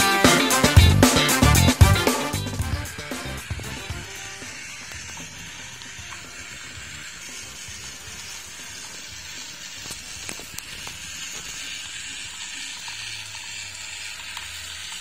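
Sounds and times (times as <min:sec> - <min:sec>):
toy motor whirring: 0:00.0 - 0:15.0.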